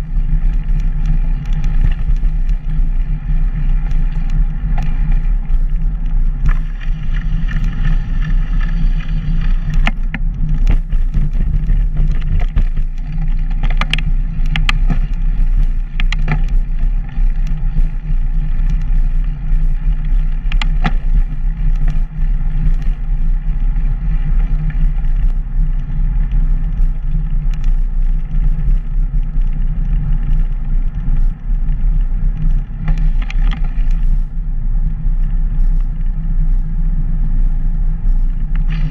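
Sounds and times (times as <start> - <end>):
faint steady tones: 0.0 - 38.9
wheels rolling on pavement: 0.0 - 38.9
wind buffeting microphone: 0.0 - 38.9.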